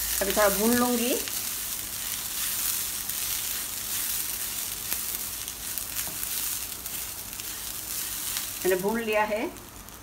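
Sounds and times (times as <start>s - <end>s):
rice sizzling in a pan: 0.0s - 10.0s.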